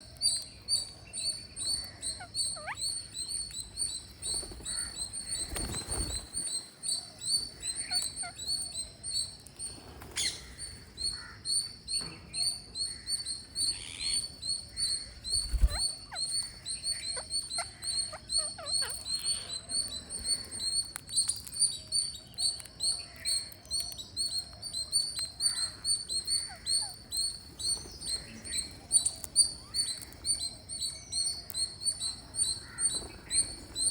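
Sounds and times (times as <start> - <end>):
parrots chirping: 0.2 - 9.4, 12.9 - 33.9.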